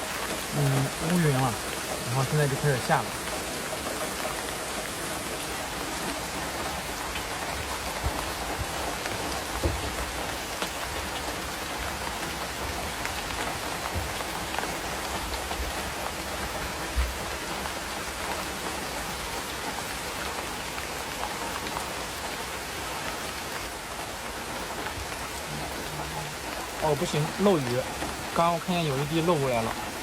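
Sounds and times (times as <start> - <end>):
heavy rain drumming on roof: 0.0 - 30.0.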